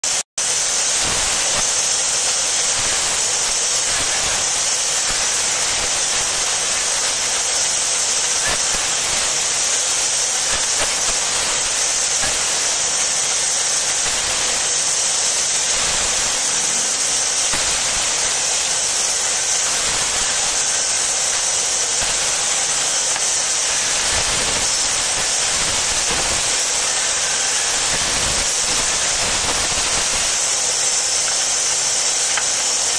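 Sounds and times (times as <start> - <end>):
band saw cutting wood: 0.0 - 32.9.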